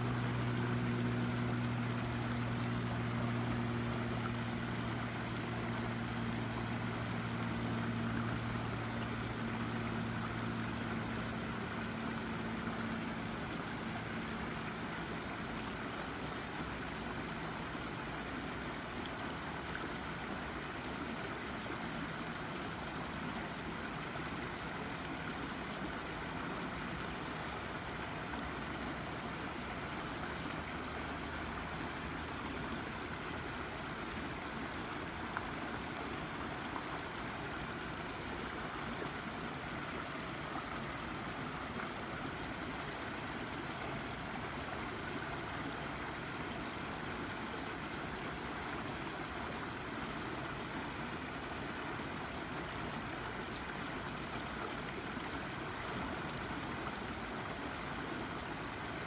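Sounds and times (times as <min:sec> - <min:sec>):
brook babbling over rock: 0:00.0 - 0:59.0.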